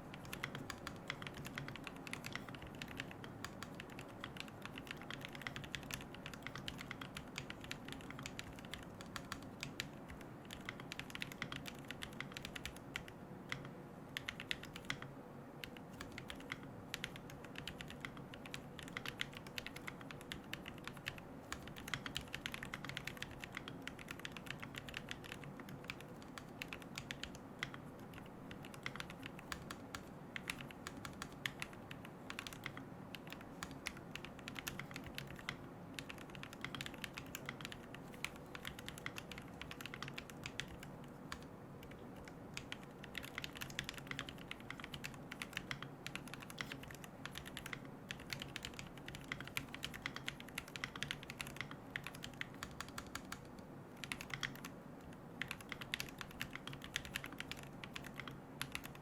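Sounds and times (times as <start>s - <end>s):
mechanical keyboard typing: 0.0s - 59.0s.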